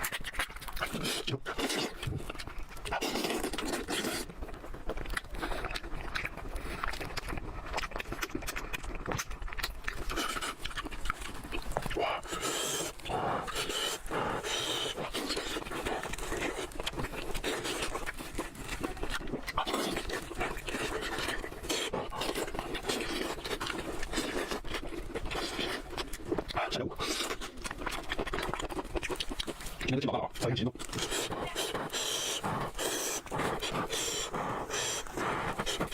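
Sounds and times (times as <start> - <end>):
wet chewing and smacking: 0.0 - 35.9.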